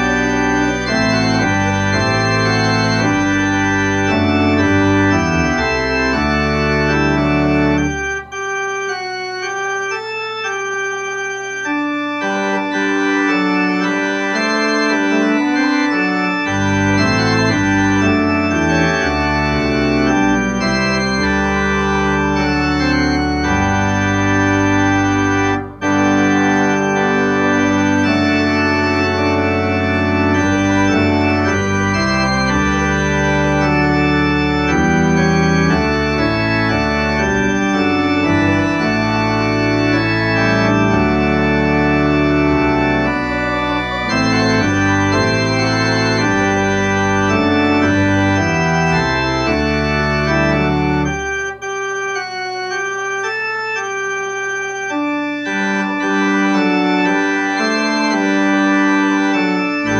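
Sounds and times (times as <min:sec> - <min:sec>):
church organ chords: 0:00.0 - 0:59.9
deep organ pedal bass notes: 0:00.0 - 0:59.9.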